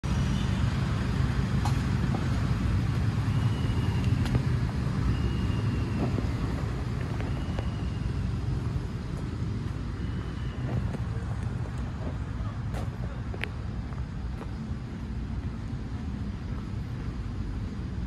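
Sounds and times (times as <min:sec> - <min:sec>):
distant city traffic rumble: 0:00.0 - 0:18.0.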